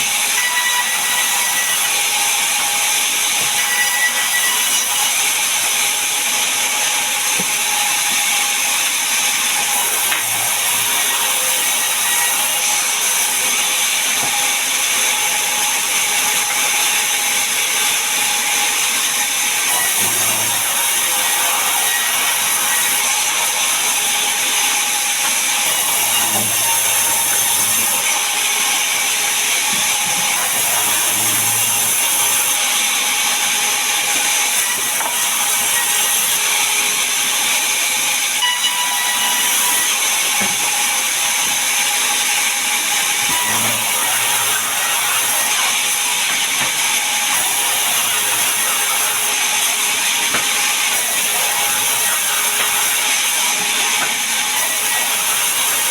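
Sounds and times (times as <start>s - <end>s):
sawmill saw cutting log: 0.0s - 55.9s.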